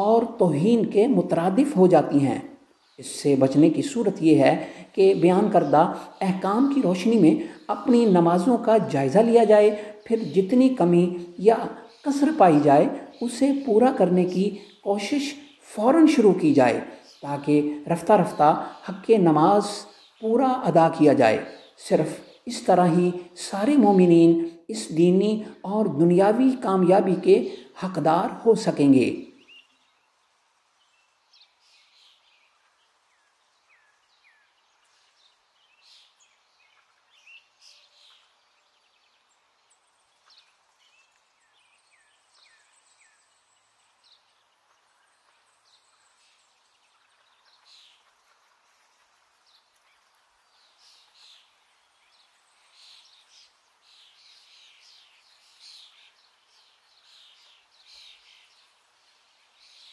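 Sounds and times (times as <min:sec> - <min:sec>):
birds chirping: 0:00.0 - 0:59.9
outdoor ambient hiss: 0:00.0 - 0:59.9.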